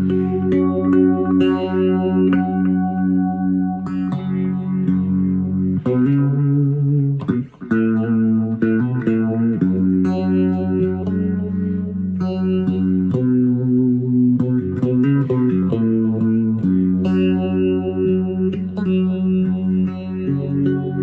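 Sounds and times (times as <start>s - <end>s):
amplified electric guitar notes: 0.0s - 21.0s.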